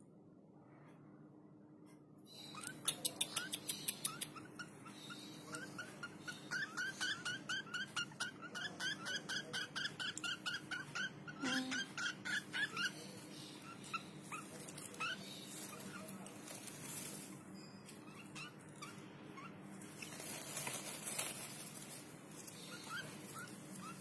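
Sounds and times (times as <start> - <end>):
baby bird chirping: 2.3 - 24.0.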